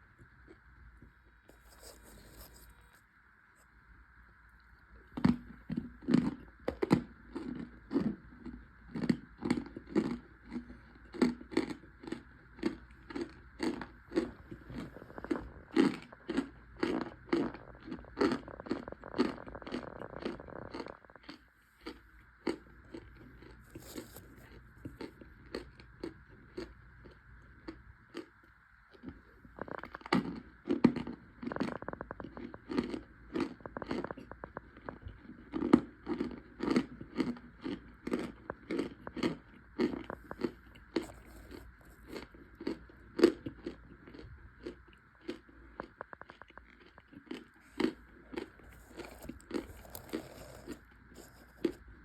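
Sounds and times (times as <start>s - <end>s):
crunchy chewing: 0.0s - 3.8s, 4.5s - 52.0s.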